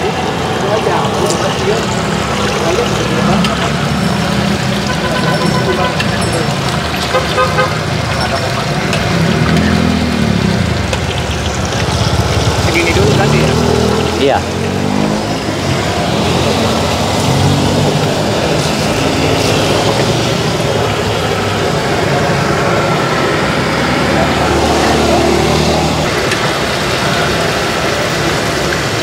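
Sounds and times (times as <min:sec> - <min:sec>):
road traffic passing: 0:00.0 - 0:29.0
food deep-frying in hot oil: 0:00.6 - 0:25.4, 0:26.1 - 0:29.0.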